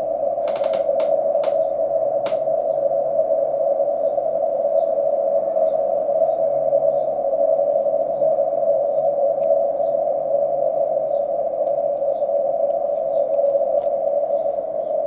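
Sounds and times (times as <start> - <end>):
filtered radio static hiss: 0.0 - 15.0
faint high chirps: 0.5 - 15.0.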